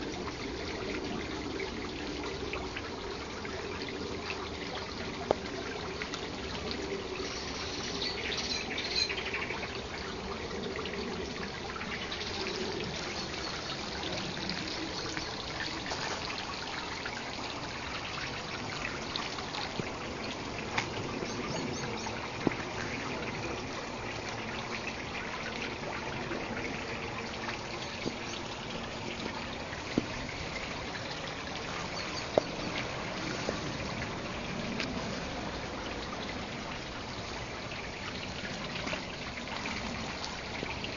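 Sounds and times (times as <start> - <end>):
water feature trickling: 0.0 - 40.9.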